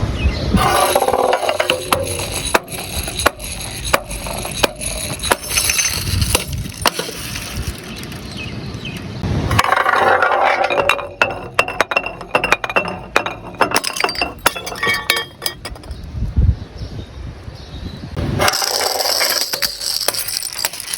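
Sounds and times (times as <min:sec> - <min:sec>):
glass bottles tumbling down stairs: 0:00.6 - 0:08.5, 0:09.5 - 0:16.0, 0:18.4 - 0:20.9
glass crashing: 0:00.6 - 0:08.5, 0:09.5 - 0:16.0, 0:18.4 - 0:20.9.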